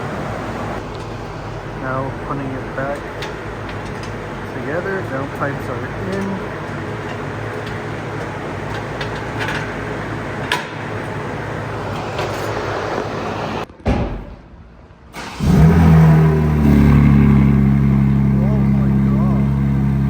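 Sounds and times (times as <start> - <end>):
car engine starting and idling: 0.0 - 13.7, 15.1 - 20.0
workshop noise: 0.0 - 20.0.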